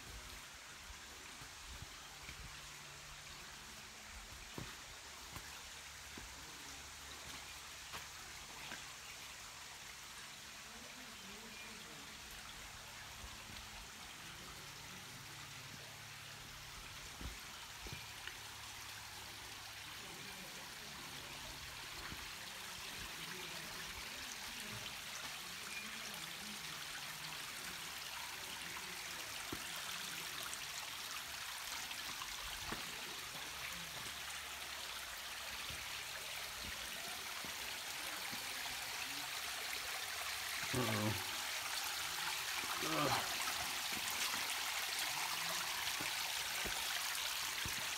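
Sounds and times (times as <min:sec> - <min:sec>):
stream trickling over rock: 0:00.0 - 0:47.9.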